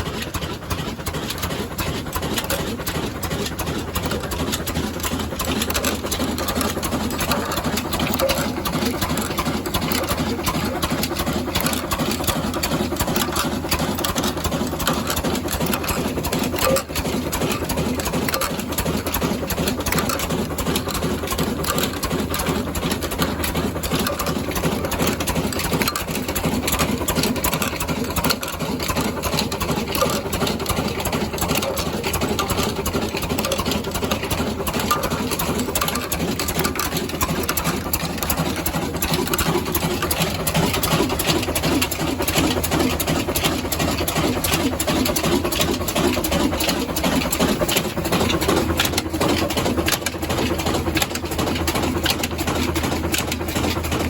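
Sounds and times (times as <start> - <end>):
stationary diesel engine clattering: 0.0 - 54.0.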